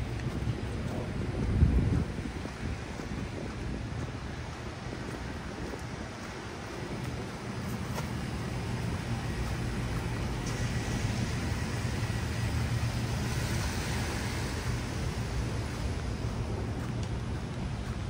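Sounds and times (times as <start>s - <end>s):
car passing on wet street: 0.0s - 18.0s.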